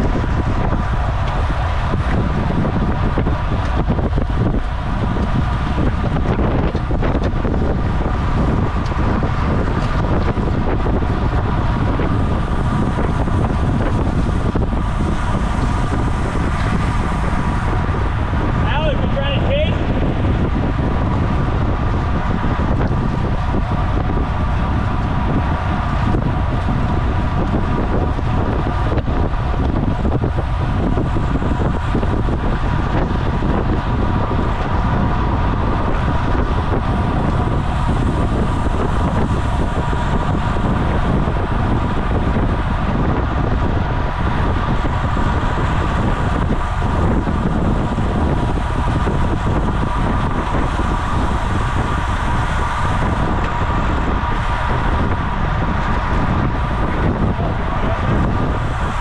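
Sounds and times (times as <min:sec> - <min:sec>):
bicycle road noise: 0:00.0 - 0:59.0
faint steady whine: 0:00.0 - 0:59.0
wind rushing over microphone: 0:00.0 - 0:59.0.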